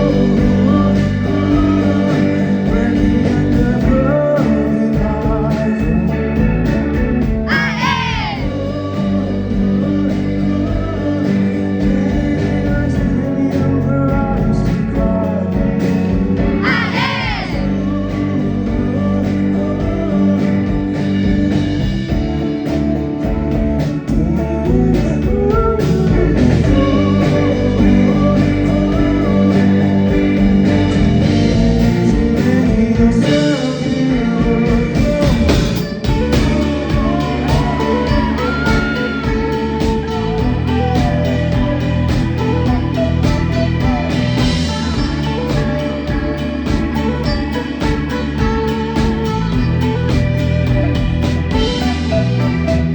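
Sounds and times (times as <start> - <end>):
electric guitar bending notes: 0.0 - 52.9
live rock band playing: 0.0 - 52.9.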